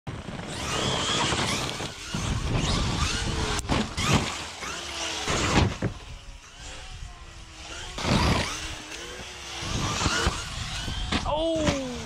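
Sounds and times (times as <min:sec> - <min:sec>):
electric motor whine: 0:00.1 - 0:12.0.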